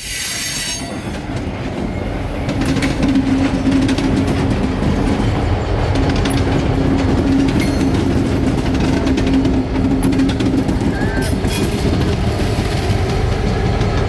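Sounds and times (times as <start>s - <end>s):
diesel locomotive engine humming: 0.0s - 14.0s
train wheels clicking on rail joints: 0.0s - 14.0s.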